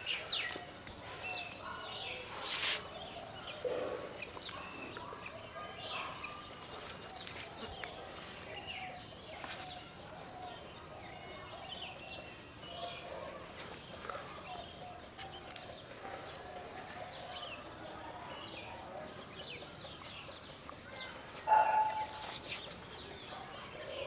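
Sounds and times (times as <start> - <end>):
many birds chirping: 0.0 - 24.0.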